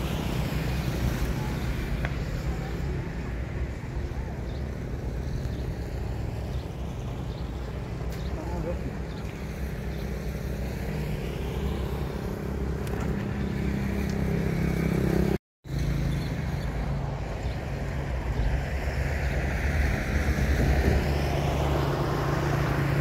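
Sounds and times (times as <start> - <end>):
passing road traffic rumble: 0.0 - 23.0.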